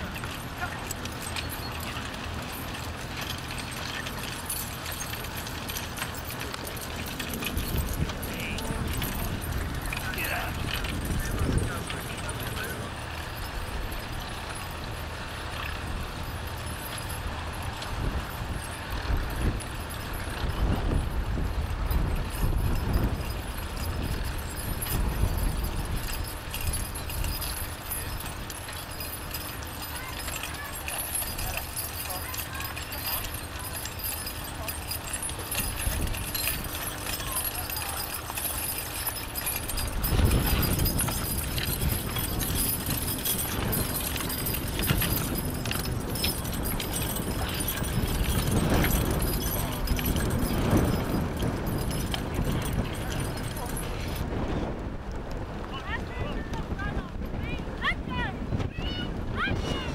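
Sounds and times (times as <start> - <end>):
harness chains jingling: 0.0 - 59.9
wind buffeting microphone: 3.8 - 59.9.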